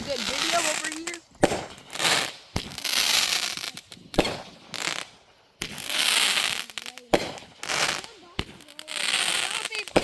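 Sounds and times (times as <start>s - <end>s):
fireworks bangs: 0.0s - 10.0s
fireworks crackling hiss: 0.0s - 10.0s.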